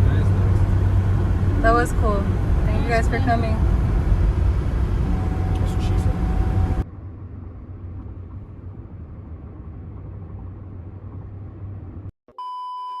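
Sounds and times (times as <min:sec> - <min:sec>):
low rumble: 0:00.0 - 0:12.1.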